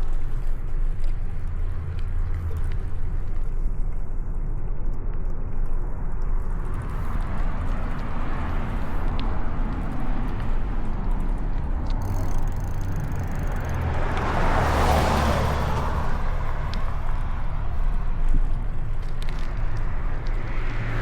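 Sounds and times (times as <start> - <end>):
bicycle riding rumble: 0.0 - 21.0
traffic noise: 0.0 - 21.0.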